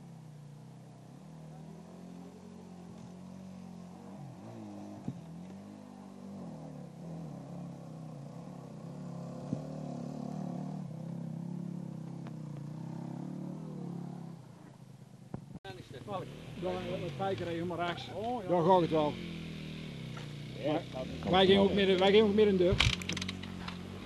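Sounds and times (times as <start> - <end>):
dirt bike engine revving: 0.0 - 14.9, 15.7 - 24.0.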